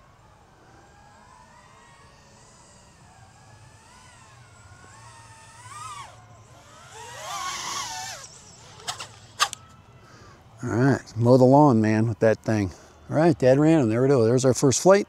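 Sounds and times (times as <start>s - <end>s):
quadcopter motors whining: 0.0s - 14.9s.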